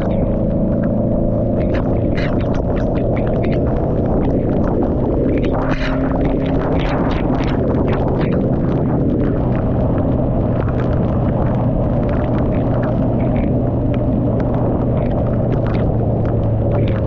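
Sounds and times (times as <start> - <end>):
motorcycle engine hum: 0.0 - 17.0
rain ticking on camera: 0.0 - 17.0
wind buffeting microphone: 0.0 - 17.0.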